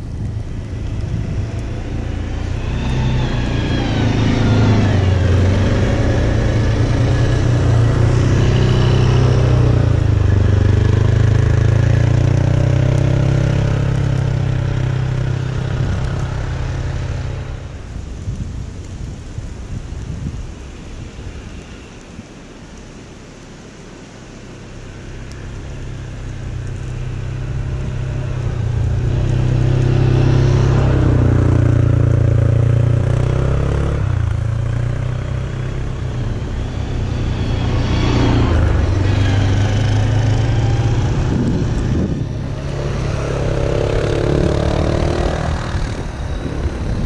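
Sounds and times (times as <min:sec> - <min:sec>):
off-road vehicle engine whining: 0:00.0 - 0:18.0, 0:22.7 - 0:47.0.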